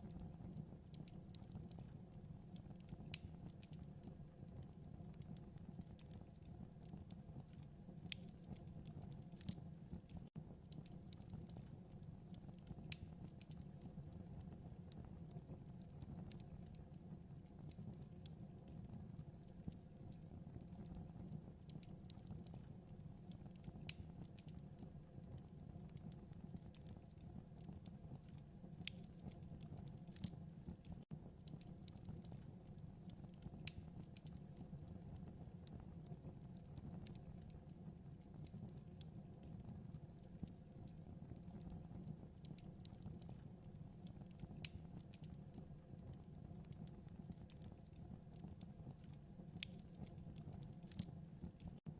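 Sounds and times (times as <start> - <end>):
fire crackling with pops: 0.0 - 51.9
rumble of flames: 0.0 - 51.9.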